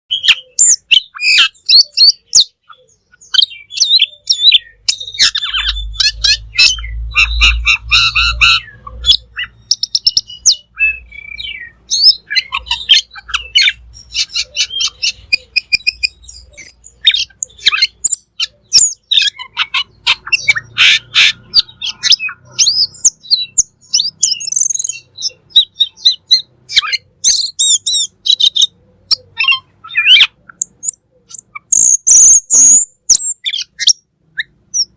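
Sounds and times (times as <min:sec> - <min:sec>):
bird singing chirps and trills: 0:00.1 - 0:34.9.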